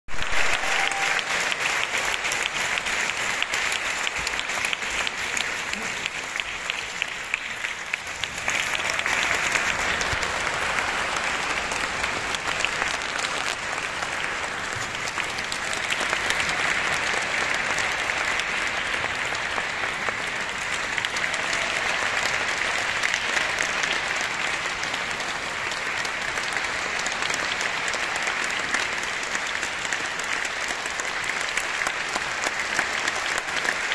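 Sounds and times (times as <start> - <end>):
audience applauding: 0.1 - 33.9.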